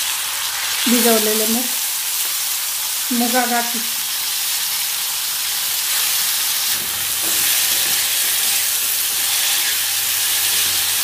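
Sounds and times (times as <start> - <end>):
beans sizzling in hot oil: 0.0 - 11.0.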